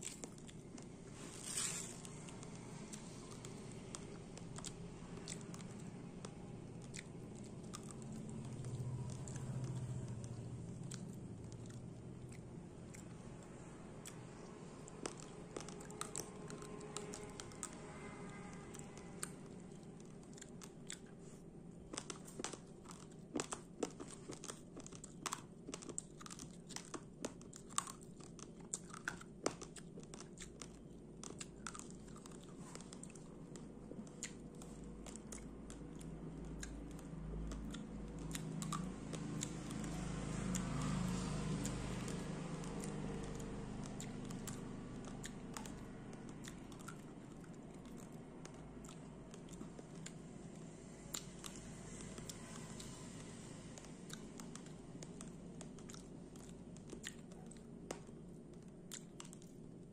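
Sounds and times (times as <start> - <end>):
chewing crunchy rice: 0.0 - 59.9.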